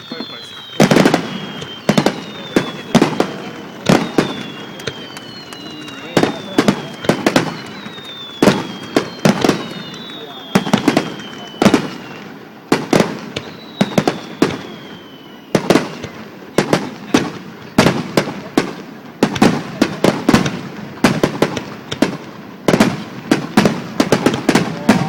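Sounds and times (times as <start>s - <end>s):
falling firework whistle: 0.0s - 25.0s
fireworks bangs: 0.0s - 25.0s.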